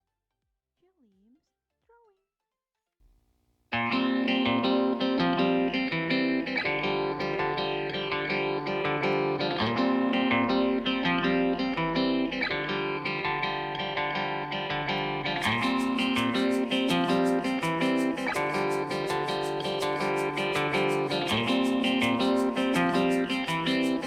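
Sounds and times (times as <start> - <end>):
plucked guitar children's tune: 3.7 - 24.0.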